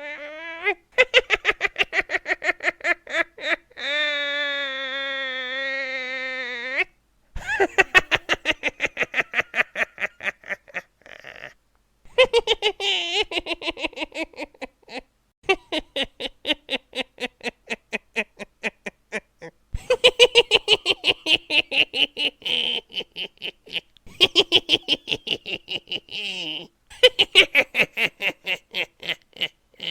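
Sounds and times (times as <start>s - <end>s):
witch cackling laugh: 0.1s - 29.9s.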